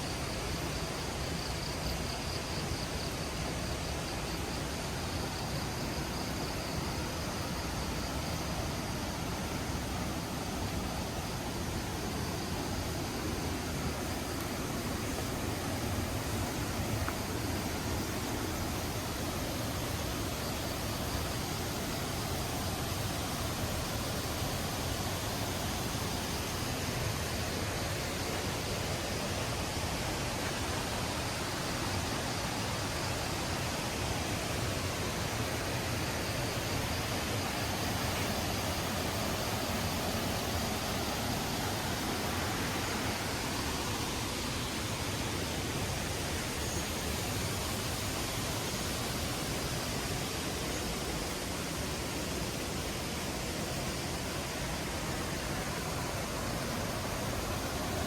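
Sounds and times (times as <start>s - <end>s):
waterfall roaring: 4.3s - 58.0s.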